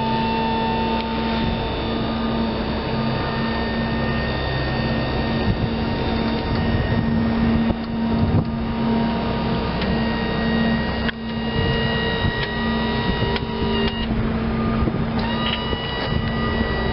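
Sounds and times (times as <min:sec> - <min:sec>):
mower engine running: 0:00.0 - 0:16.9
steady whine: 0:00.0 - 0:16.9.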